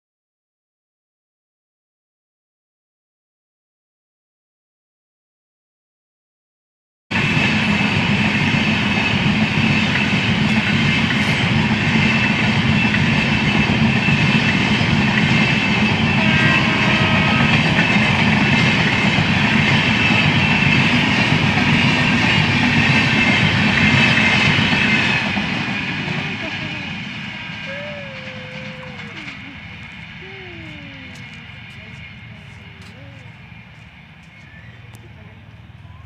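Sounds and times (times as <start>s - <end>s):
train wheels rumbling on rails: 7.1s - 36.0s.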